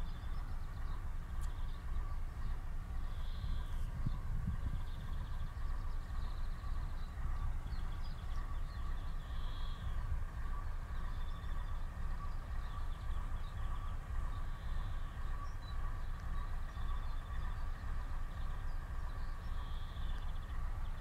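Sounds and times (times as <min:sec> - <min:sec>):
faint hum: 0:00.0 - 0:21.0
low outdoor rumble: 0:00.0 - 0:21.0
small birds chirping: 0:00.0 - 0:21.0.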